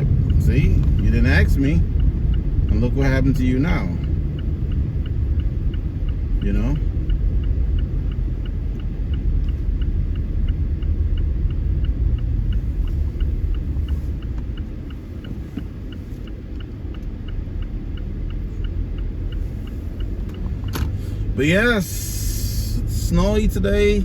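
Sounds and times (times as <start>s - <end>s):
car road and engine rumble: 0.0s - 24.0s
indicator ticking: 0.0s - 24.0s.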